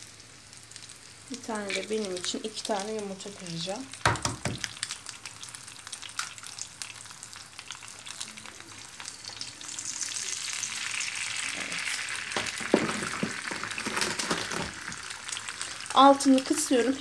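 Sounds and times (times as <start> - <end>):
eggs sizzling in oil: 0.0 - 17.0.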